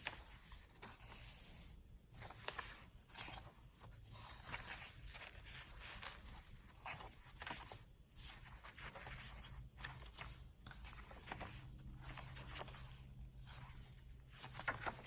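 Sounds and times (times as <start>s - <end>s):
paper pages rustling: 0.0s - 1.3s, 2.1s - 15.0s.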